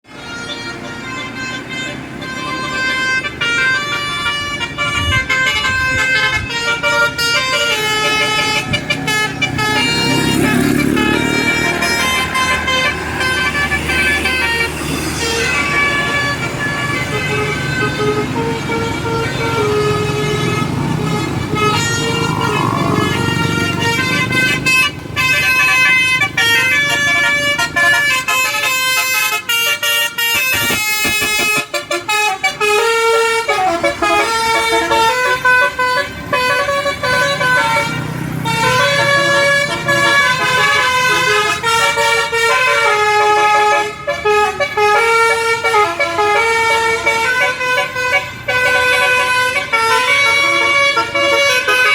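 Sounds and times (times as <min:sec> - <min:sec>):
bus multi-tone horn tune: 0:00.0 - 0:51.9
bus engine rumble: 0:00.1 - 0:51.9.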